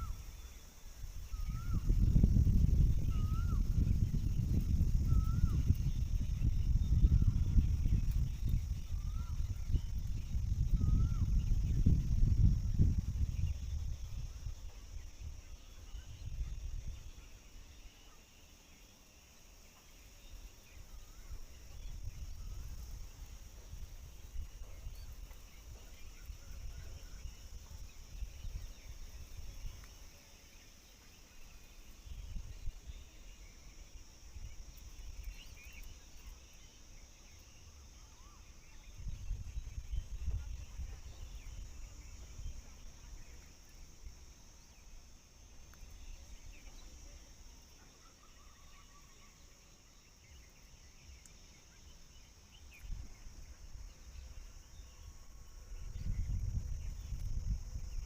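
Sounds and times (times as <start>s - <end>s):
faint bird chirps: 0.0s - 58.0s
high insect drone: 0.0s - 58.0s.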